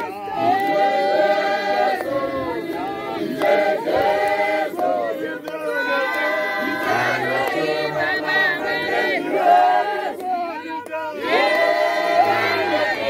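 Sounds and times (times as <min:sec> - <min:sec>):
group singing together: 0:00.0 - 0:13.0.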